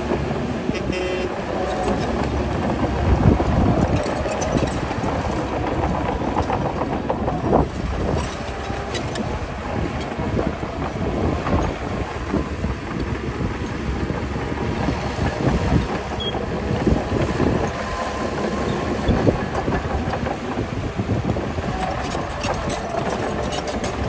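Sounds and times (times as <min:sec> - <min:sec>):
diesel machinery engine rumble: 0:00.0 - 0:24.0.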